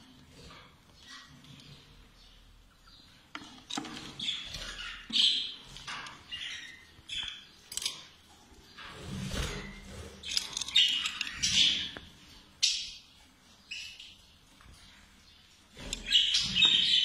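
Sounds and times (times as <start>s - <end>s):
budgerigars chirping and squawking: 0.2s - 17.0s.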